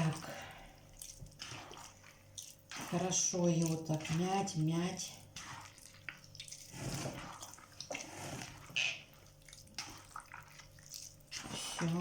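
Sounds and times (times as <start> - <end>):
hand squelching wet food: 0.0 - 12.0.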